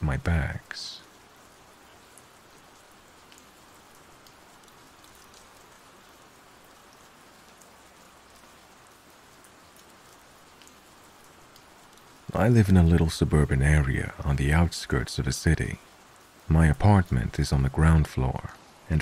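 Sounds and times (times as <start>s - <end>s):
light raindrop ticks: 0.0s - 19.0s
steady rain hiss: 0.0s - 19.0s.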